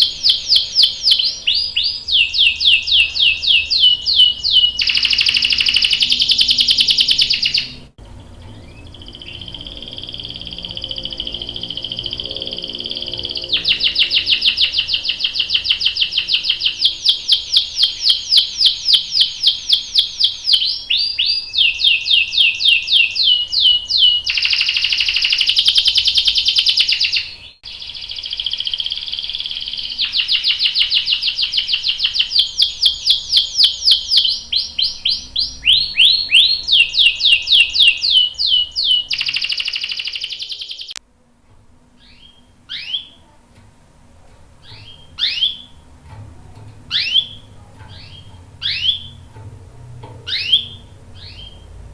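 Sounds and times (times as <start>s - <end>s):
canary singing trills: 0.0s - 41.0s, 42.0s - 43.3s, 44.5s - 51.9s.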